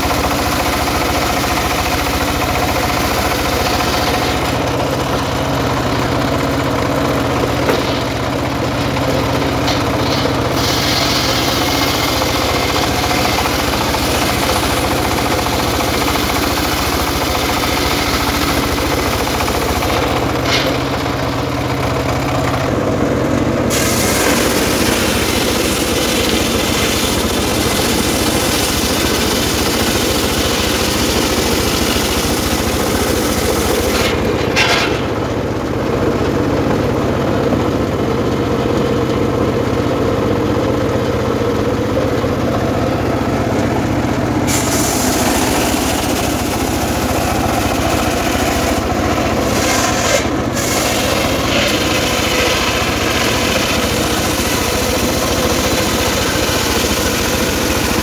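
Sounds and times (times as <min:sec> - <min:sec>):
circular sawmill cutting log: 0:00.0 - 0:58.0.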